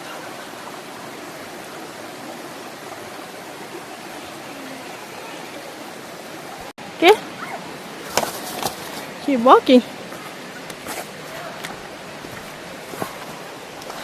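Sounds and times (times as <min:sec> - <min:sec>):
stream water flowing over rocks: 0:00.0 - 0:14.0.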